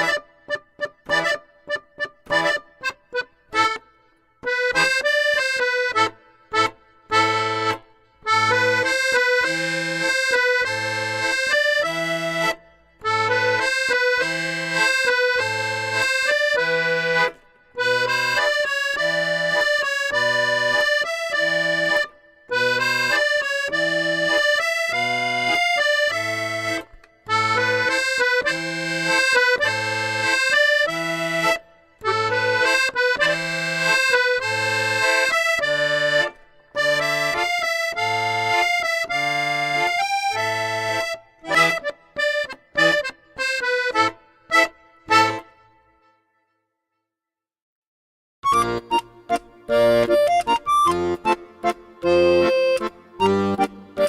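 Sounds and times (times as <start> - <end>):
accordion music: 0.0 - 46.6, 48.4 - 54.0.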